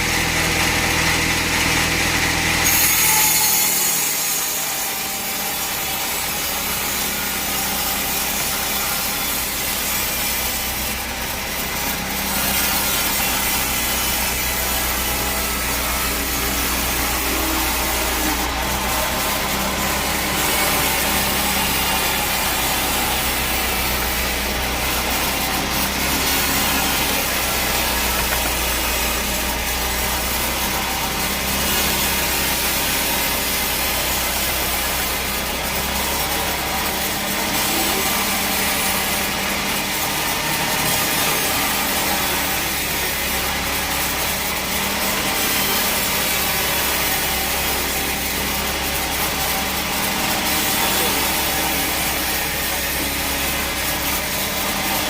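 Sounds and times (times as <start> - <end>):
bandsaw blade sawing log: 0.0 - 55.0.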